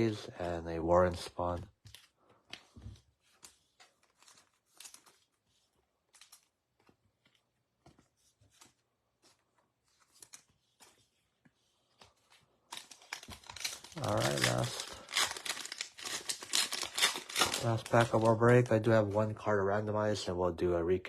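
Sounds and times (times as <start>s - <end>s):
trading cards and wrappers rustling: 0.0s - 19.9s.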